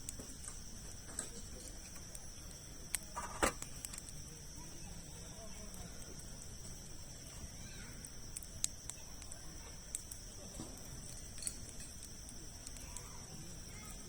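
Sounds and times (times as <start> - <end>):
campfire crackling and popping: 0.0 - 14.0
low soft fire roar: 0.0 - 14.0.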